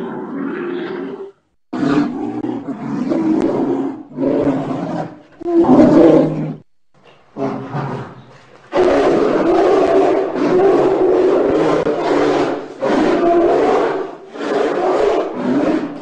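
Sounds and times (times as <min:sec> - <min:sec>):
polar bear roaring: 0:00.0 - 0:06.7, 0:07.4 - 0:16.0.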